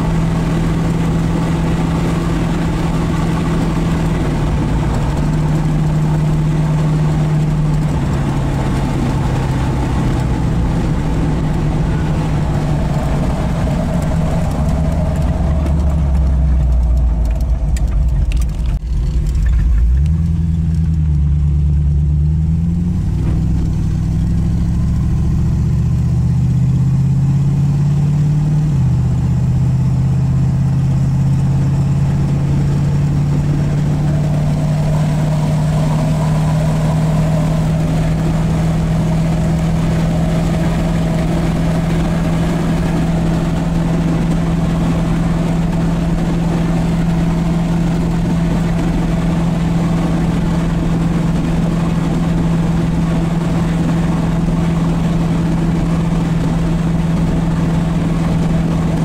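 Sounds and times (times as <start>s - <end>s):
car engine droning: 0.0s - 59.0s.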